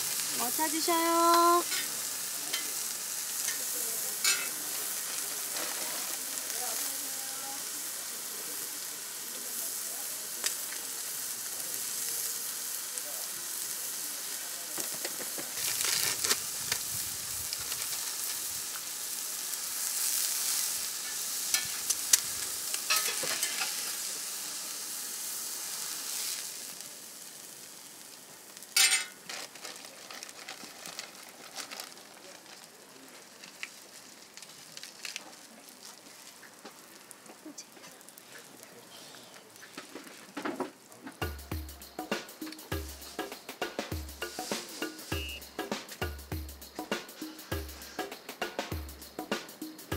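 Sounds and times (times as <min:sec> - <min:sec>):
food sizzling on a griddle: 0:00.0 - 0:49.9.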